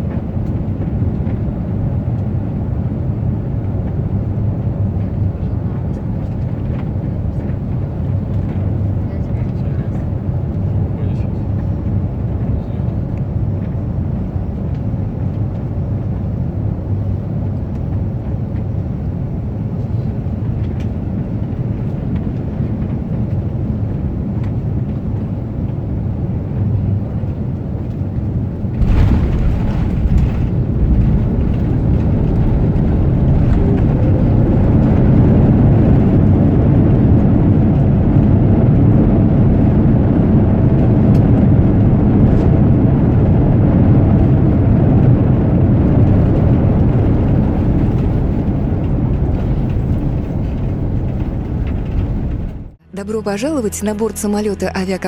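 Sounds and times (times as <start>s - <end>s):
aircraft cabin rumble: 0.0s - 55.0s.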